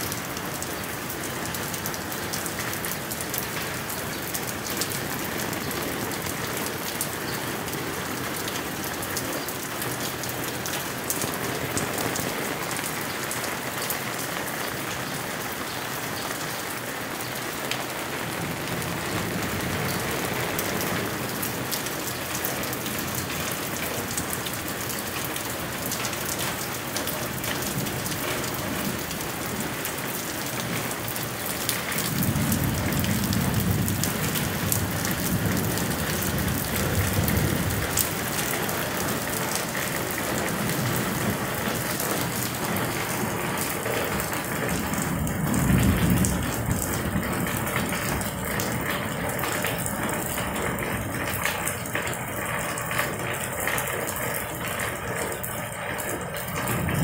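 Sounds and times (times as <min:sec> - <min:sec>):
heavy rain on pavement: 0:00.0 - 0:57.0.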